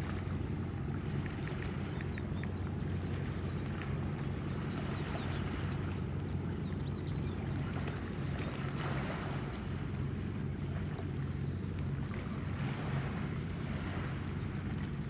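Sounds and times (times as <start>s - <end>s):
ship engine drone: 0.0s - 15.0s.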